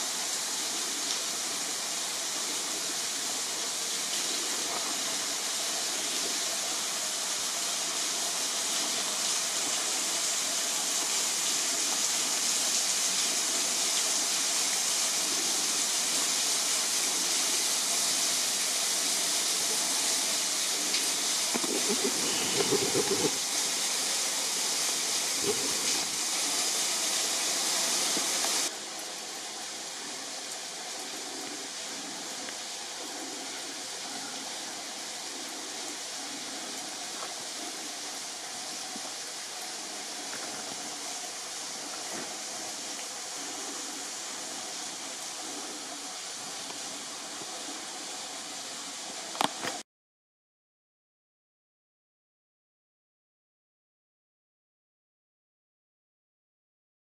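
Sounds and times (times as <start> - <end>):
waterfall pouring onto rocks: 0.0 - 49.8.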